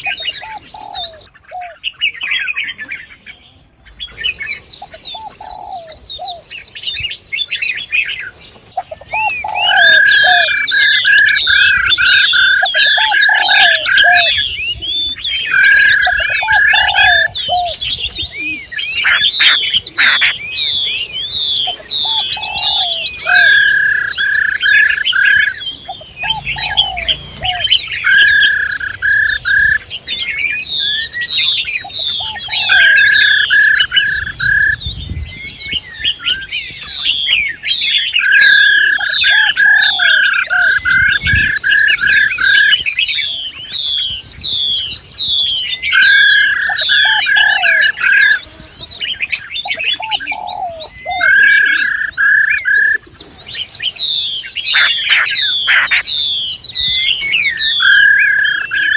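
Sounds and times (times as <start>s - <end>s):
songbirds chirping: 0.0s - 58.9s.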